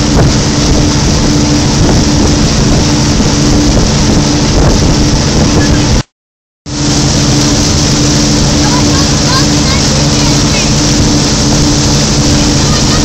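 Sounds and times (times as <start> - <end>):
motorboat engine droning: 0.0 - 6.1, 6.7 - 13.0
rushing wake water: 0.0 - 6.1, 6.7 - 13.0
wind noise on microphone: 0.0 - 6.1, 6.8 - 13.0.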